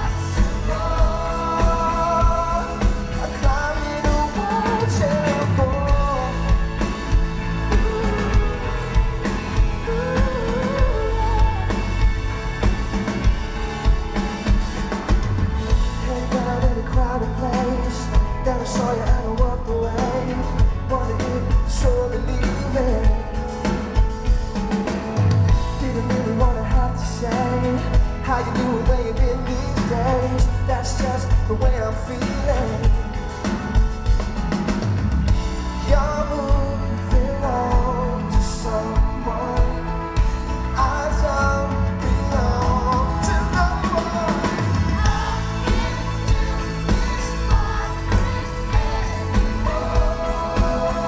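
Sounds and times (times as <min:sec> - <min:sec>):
lead singer singing: 0:00.0 - 0:51.0
live pop-rock band playing: 0:00.0 - 0:51.0.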